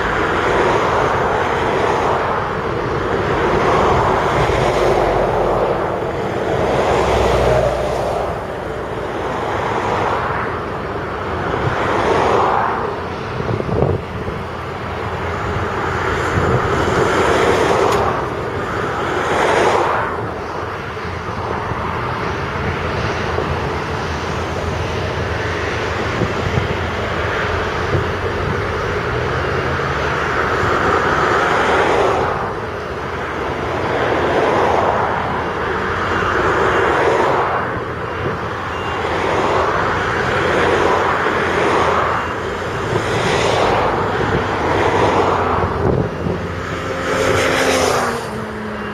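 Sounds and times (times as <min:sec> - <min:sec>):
diesel engines rumbling under load: 0:00.0 - 0:48.9.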